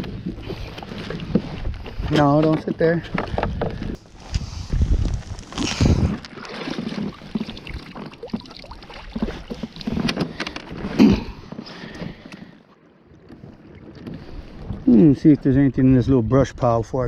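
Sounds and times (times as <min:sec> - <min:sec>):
paddle splashing water: 0:00.0 - 0:15.8.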